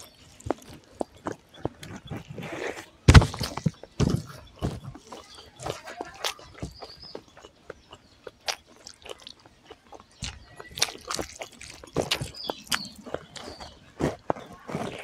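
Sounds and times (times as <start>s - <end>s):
chewing: 0.0s - 15.0s
fingers squishing rice and gravy: 0.0s - 15.0s.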